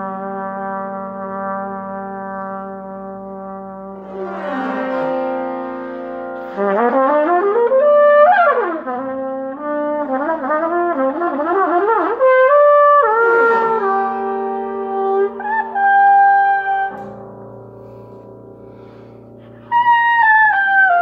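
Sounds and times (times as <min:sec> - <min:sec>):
trumpet improvising: 0:00.0 - 0:17.2, 0:19.6 - 0:21.0.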